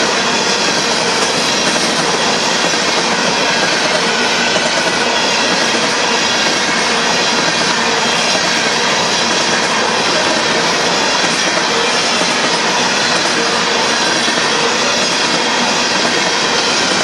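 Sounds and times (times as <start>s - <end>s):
steel wheels running over rails: 0.0s - 17.0s.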